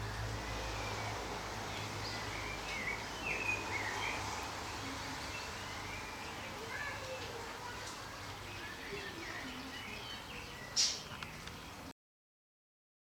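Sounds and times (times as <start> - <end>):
birds chirping: 0.0 - 11.9
outdoor background noise: 0.0 - 12.0.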